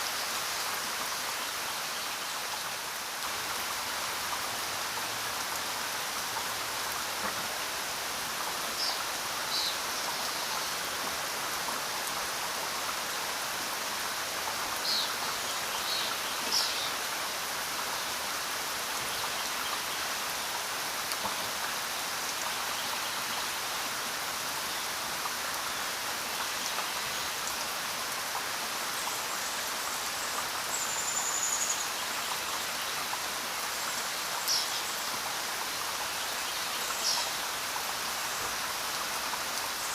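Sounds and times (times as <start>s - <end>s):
rain on ground and leaves: 0.0s - 39.9s.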